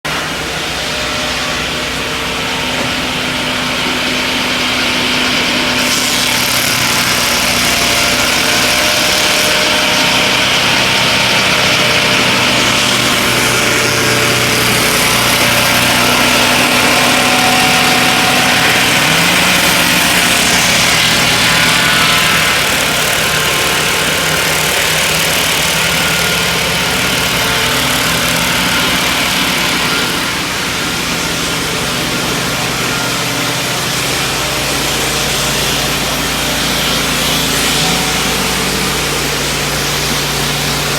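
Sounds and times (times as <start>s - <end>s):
sawmill engine droning: 0.0s - 40.9s
circular blade sawing log: 0.1s - 40.9s.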